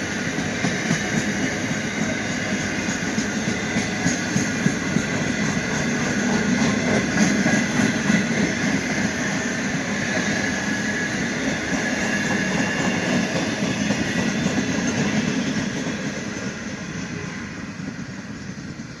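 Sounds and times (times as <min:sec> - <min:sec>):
train wagons rolling on rails: 0:00.0 - 0:19.0.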